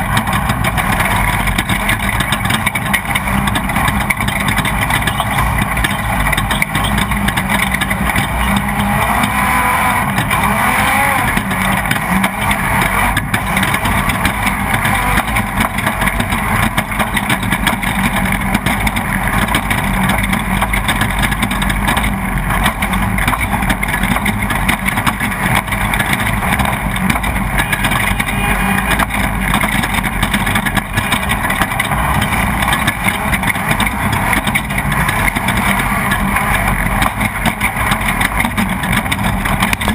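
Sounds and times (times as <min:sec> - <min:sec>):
race vehicle engine running: 0:00.0 - 0:39.9.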